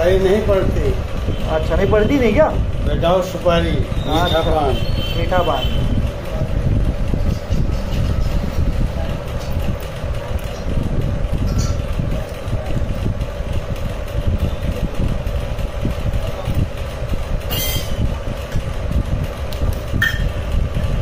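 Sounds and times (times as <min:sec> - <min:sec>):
mid-pitched hum: 0:00.0 - 0:21.0.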